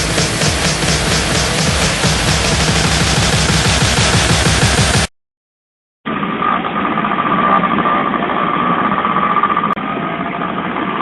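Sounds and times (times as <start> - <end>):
high-pitched whine: 0.0 - 5.1, 6.1 - 11.0
motorcycle engine running: 0.0 - 5.1, 6.1 - 11.0.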